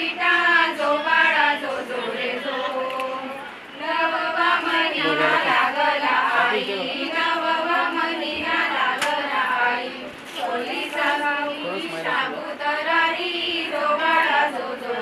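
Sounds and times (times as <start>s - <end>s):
women singing in unison: 0.0s - 15.0s.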